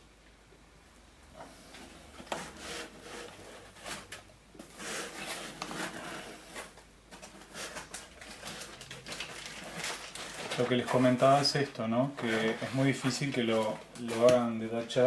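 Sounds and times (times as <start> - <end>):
rustling and handling noises: 1.3 - 15.0.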